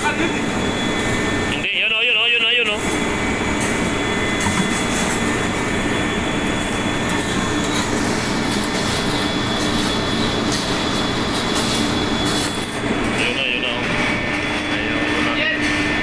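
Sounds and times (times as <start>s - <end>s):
engine room machinery droning: 0.0s - 16.0s.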